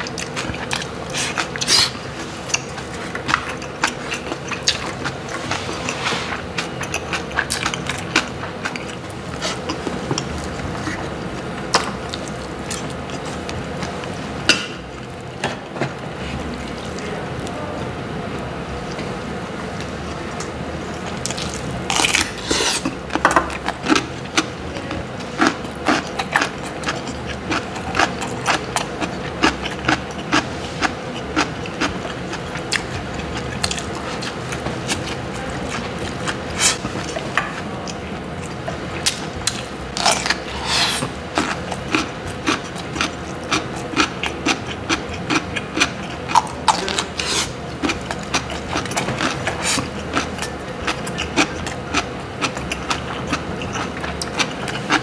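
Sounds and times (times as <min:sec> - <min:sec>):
crunchy chewing: 0:00.0 - 0:17.5, 0:19.7 - 0:55.0
steady low hum: 0:00.0 - 0:55.0.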